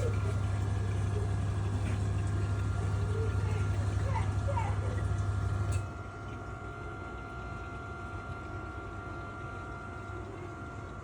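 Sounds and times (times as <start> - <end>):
steady machine hum: 0.0 - 11.0
vending machine motor hum: 0.0 - 11.0.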